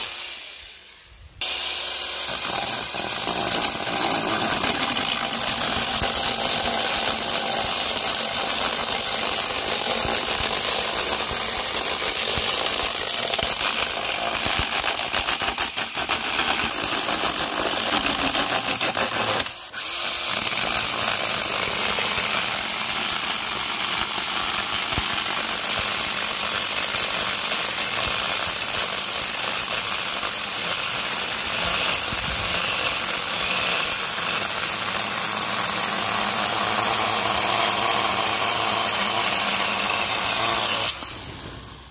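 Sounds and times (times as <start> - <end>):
cordless pole pruner cutting branches: 1.4 - 41.8.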